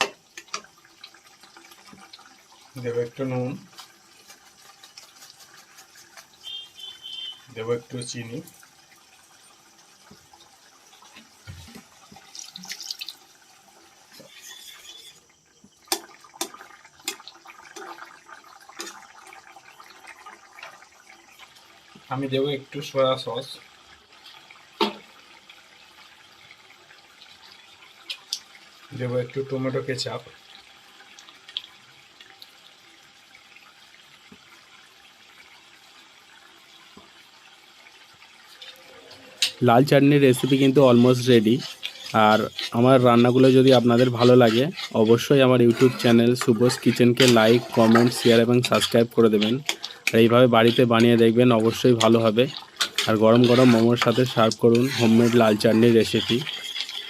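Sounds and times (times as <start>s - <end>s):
paste bubbling and sizzling: 0.0s - 57.0s.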